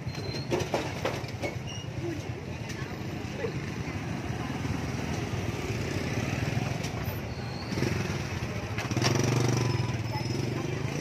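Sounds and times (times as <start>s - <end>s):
scooter engines running: 0.0s - 11.0s.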